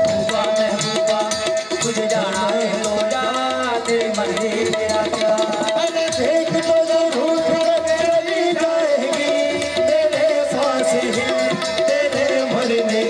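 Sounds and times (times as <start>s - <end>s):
fast hand-drum beat: 0.0s - 13.0s.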